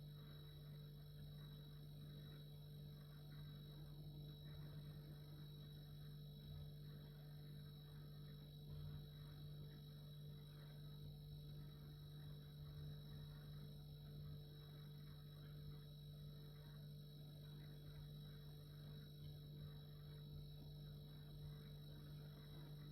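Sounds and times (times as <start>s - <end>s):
refrigerator humming: 0.0s - 22.9s
thin steady tone: 0.0s - 22.9s.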